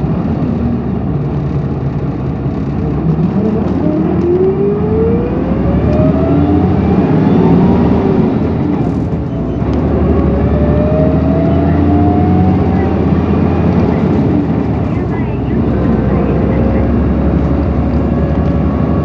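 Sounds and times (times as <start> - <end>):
bus engine rumble: 0.0 - 19.0
rising whine: 2.4 - 19.0.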